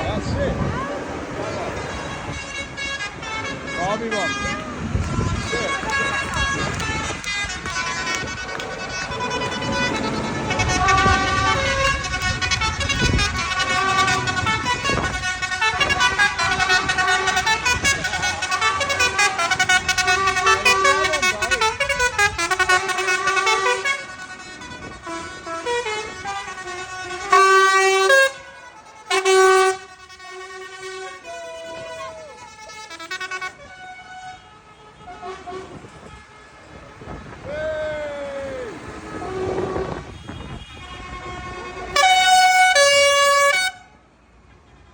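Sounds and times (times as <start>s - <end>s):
loud horn honks: 1.7s - 37.5s, 38.7s - 44.0s.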